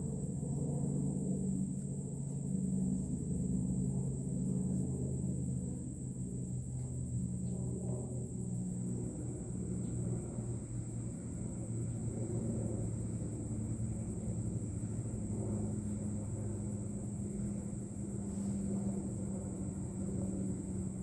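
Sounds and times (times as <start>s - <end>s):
low engine-like drone: 0.0s - 21.0s.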